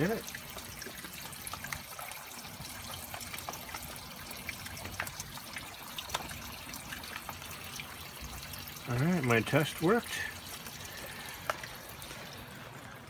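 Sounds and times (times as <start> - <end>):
water drips: 0.0 - 13.0
water trickling: 0.0 - 13.0.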